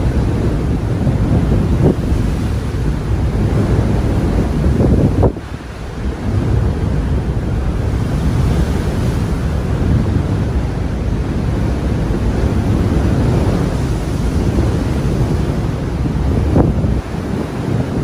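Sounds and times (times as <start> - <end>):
waves rushing against ship: 0.0 - 18.0
wind buffeting microphone: 0.0 - 18.0.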